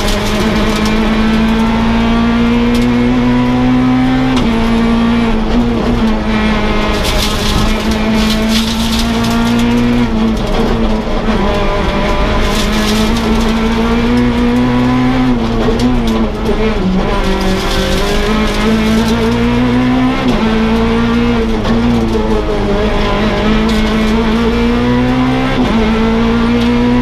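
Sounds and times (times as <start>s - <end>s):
rally car engine at high revs: 0.0s - 27.0s.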